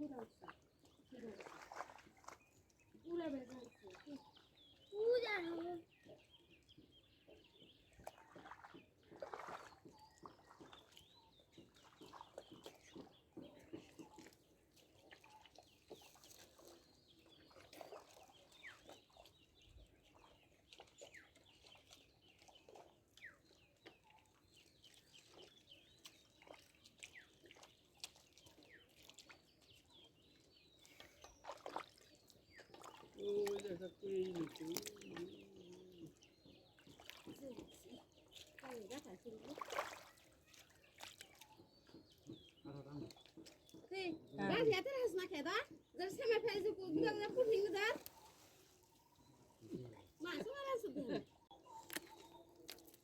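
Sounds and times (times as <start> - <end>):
faint bird calls and clicks: 0.2 - 44.1, 47.9 - 50.2, 51.3 - 53.0.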